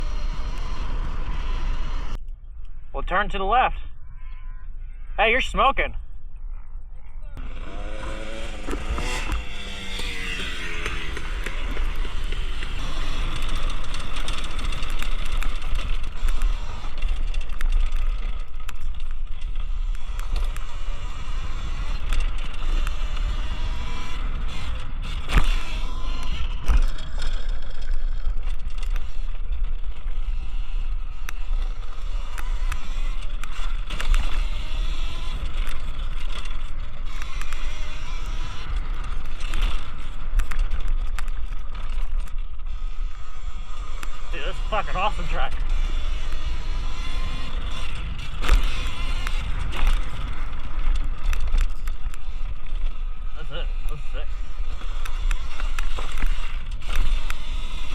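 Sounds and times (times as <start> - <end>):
electric motor whining: 0.0 - 2.2, 7.4 - 57.9.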